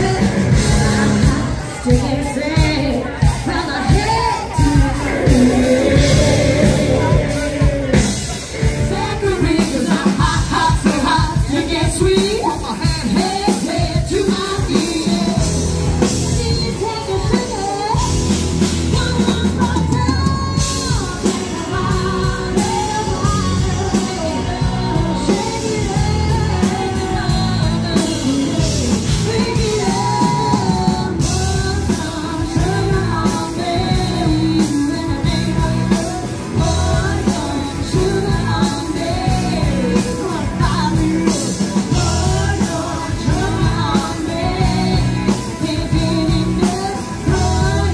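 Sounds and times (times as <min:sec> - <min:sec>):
bass guitar: 0:00.0 - 0:47.9
drum kit beat: 0:00.0 - 0:47.9
electric guitar: 0:00.0 - 0:47.9
person singing lead vocal: 0:00.0 - 0:47.9.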